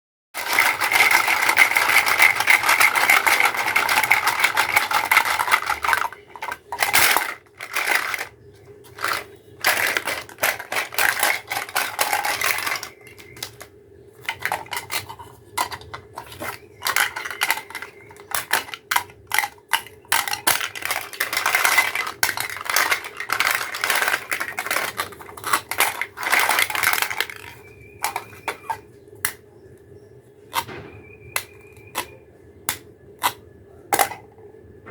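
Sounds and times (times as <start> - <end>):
plastic toy pieces clattering: 0.4 - 29.4, 30.5 - 34.9.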